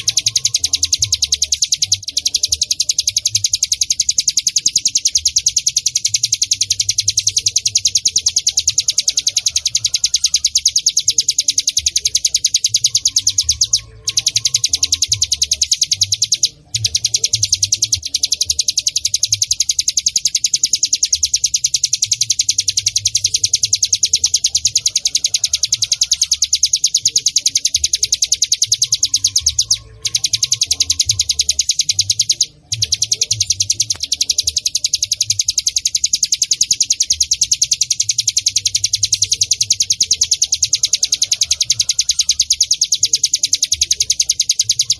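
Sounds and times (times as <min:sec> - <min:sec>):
bird chattering song: 0:00.0 - 0:44.9.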